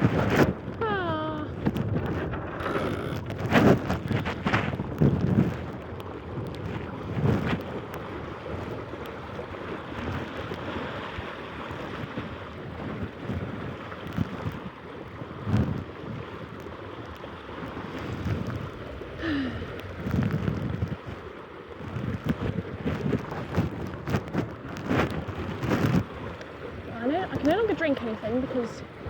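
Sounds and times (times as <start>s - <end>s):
gusty wind on microphone: 0.0s - 29.0s
water splashing: 0.0s - 29.0s.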